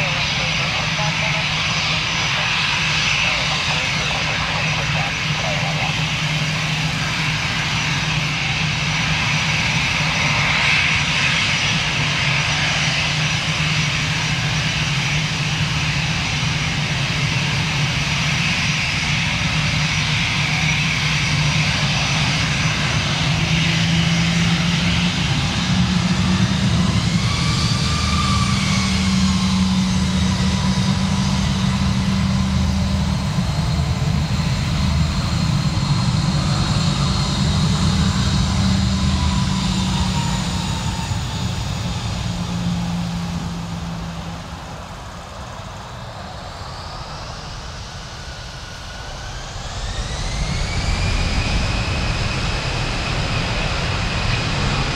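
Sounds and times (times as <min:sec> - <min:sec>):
jet engines humming and whining: 0:00.0 - 0:54.9.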